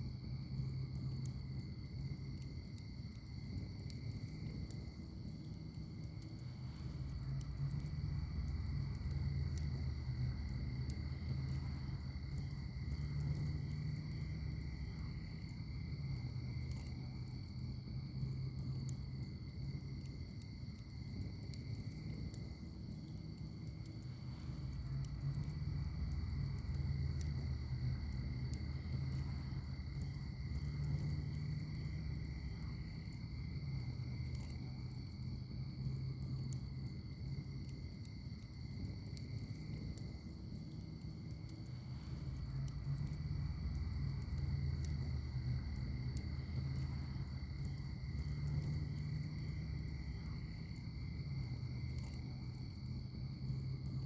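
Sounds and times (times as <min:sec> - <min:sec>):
crickets chirring: 0:00.0 - 0:54.0
wood fire crackling and popping: 0:00.0 - 0:54.0.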